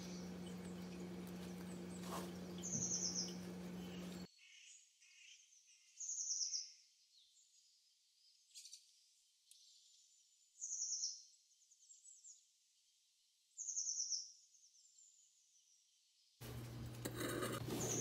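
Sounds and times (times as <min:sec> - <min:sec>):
faint bird chirps: 0:00.0 - 0:16.1.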